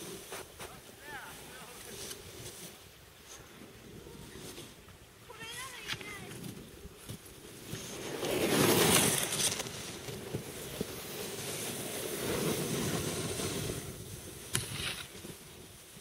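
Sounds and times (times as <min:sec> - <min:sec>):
snow spraying: 0:00.0 - 0:16.0
snowboards scraping over snow: 0:00.0 - 0:16.0.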